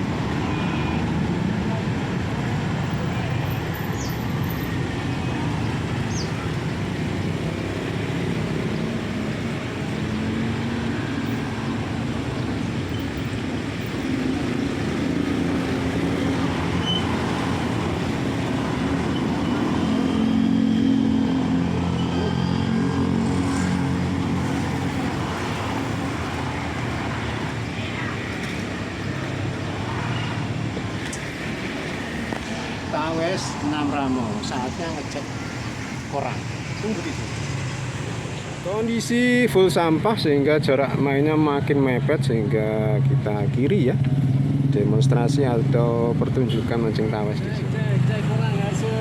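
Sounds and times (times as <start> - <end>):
motor vehicles passing: 0.0 - 49.0.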